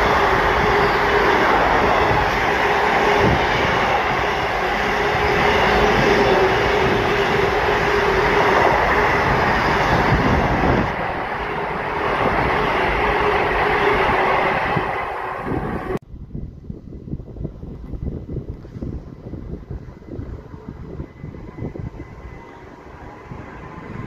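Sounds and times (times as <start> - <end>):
train wheels rumbling on rails: 0.0 - 16.0, 17.2 - 24.0.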